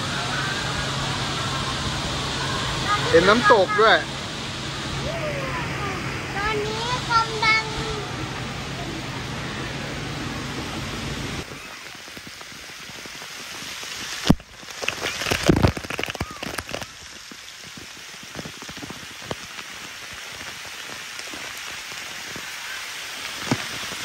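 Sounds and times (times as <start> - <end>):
fountain water spraying: 0.0 - 24.0.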